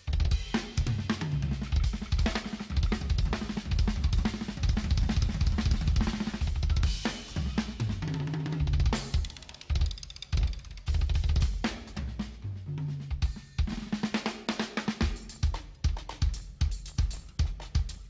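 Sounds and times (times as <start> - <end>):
drum-driven background music: 0.0 - 18.0.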